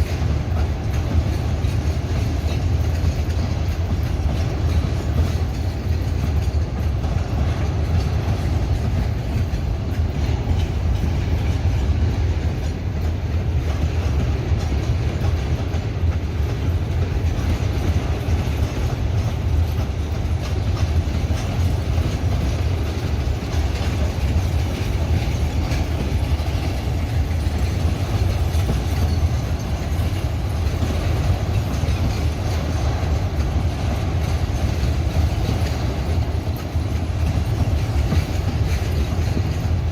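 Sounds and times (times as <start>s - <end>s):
freight train wagons rumbling on rails: 0.0s - 39.9s.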